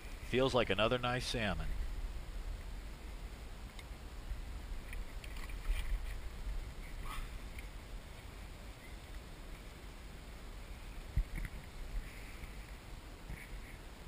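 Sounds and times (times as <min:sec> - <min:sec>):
water and wind noise: 0:00.0 - 0:14.0.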